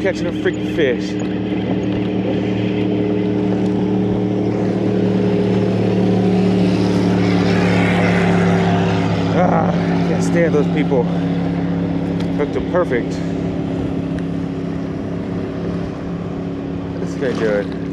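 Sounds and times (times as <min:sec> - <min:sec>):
motorboat engine droning: 0:00.0 - 0:17.9.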